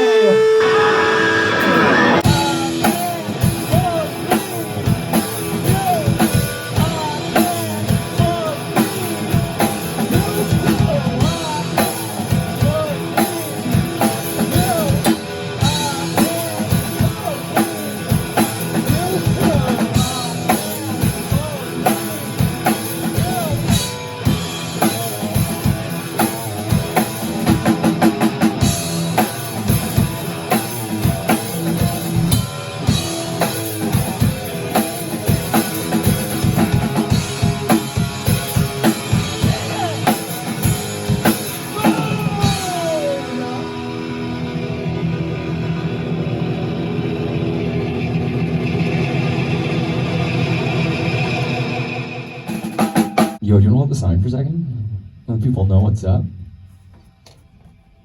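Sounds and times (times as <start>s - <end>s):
drum kit: 0.0s - 53.4s
guitar: 0.0s - 53.4s.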